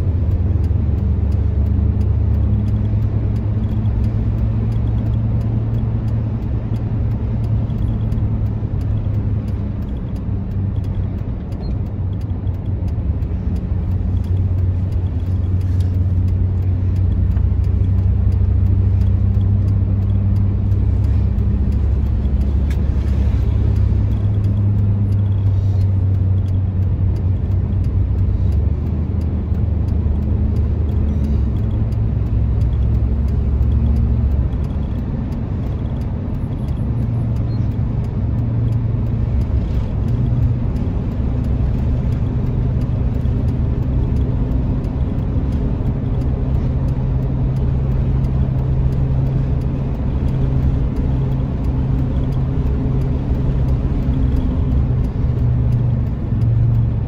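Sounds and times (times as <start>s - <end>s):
car engine and tyre hum: 0.0s - 57.0s.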